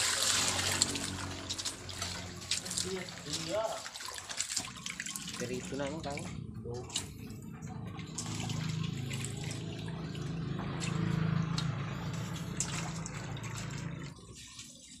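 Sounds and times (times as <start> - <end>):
water splashing and running: 0.0 - 15.0.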